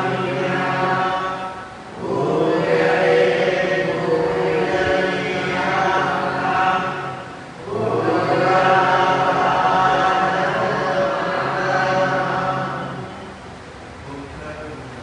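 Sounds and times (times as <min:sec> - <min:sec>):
voices chanting: 0:00.0 - 0:13.5.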